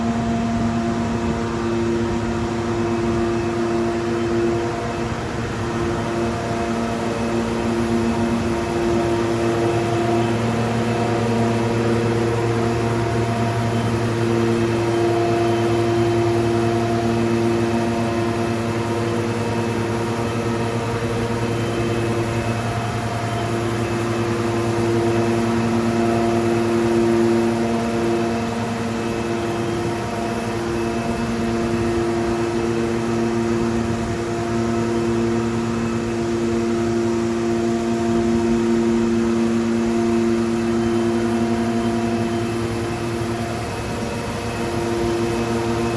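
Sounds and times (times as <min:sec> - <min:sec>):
concrete grinding machine humming: 0:00.0 - 0:45.9.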